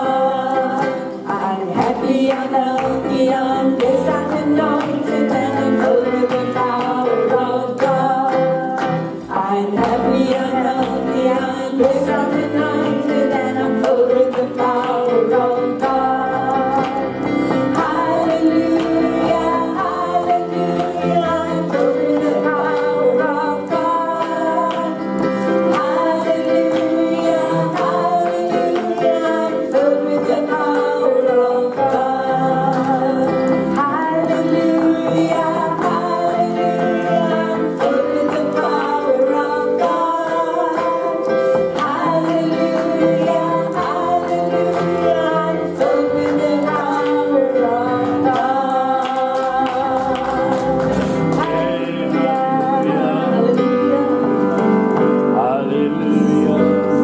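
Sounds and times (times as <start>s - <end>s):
instrumental accompaniment: 0.0s - 57.0s
women singing gospel song: 0.0s - 57.0s.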